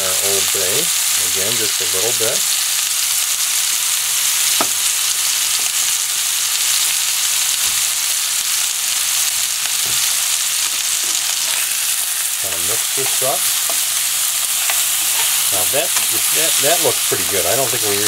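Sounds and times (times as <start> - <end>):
steak sizzling in a pan: 0.0 - 18.0.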